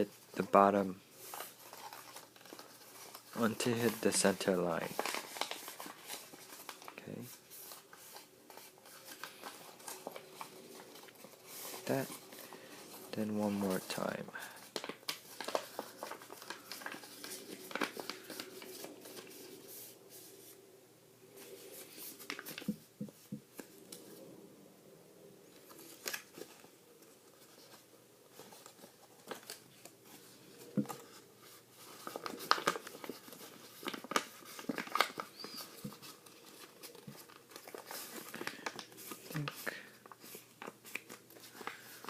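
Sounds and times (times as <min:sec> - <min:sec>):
paper rustling and creasing: 0:00.0 - 0:20.6, 0:21.3 - 0:24.4, 0:25.4 - 0:42.0.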